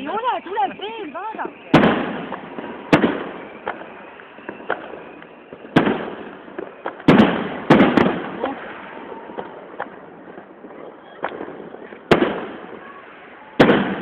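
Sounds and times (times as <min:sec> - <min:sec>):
crackling pops: 0:00.0 - 0:13.0
fireworks bangs: 0:00.0 - 0:14.0.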